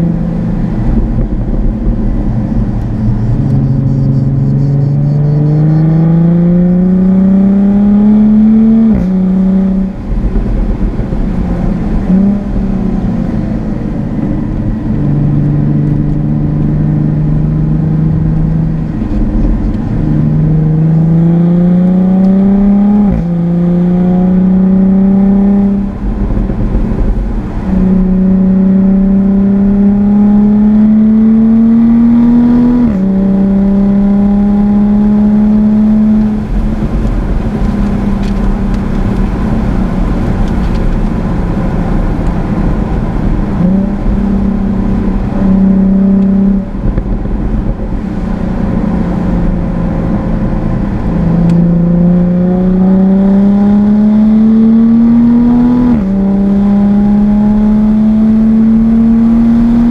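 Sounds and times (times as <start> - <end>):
car engine pulling hard: 0.0 - 59.9
road and tyre noise: 0.0 - 59.9.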